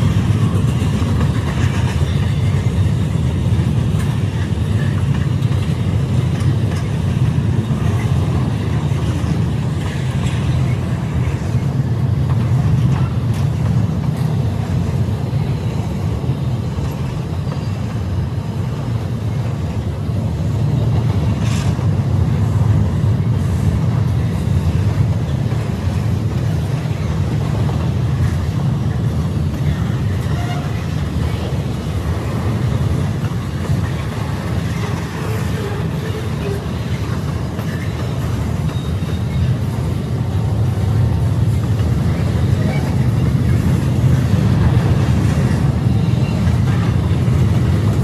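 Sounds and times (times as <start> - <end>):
freight train rumbling on rails: 0.0 - 48.0.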